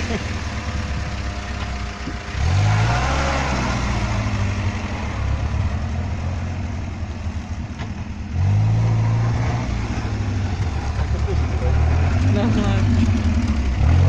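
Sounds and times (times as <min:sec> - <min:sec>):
off-road engine revving: 0:00.0 - 0:14.0.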